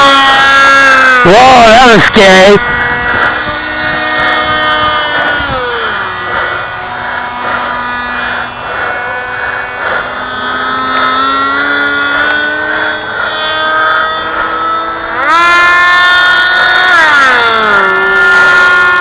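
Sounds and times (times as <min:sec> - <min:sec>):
model jet motor whine: 0:00.0 - 0:19.0.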